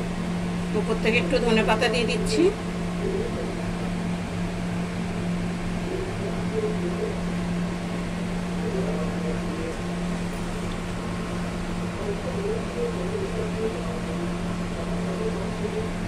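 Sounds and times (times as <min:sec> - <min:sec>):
appliance fan humming: 0:00.0 - 0:16.0.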